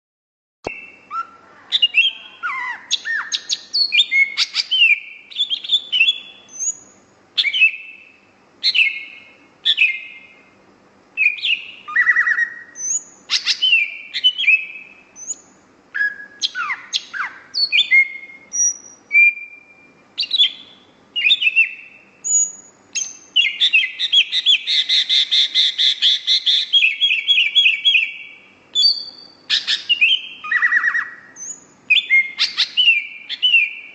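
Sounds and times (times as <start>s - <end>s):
bird singing whistled notes: 0.6s - 10.6s, 11.2s - 33.9s
bird fast trill: 0.7s - 10.4s, 11.2s - 33.9s.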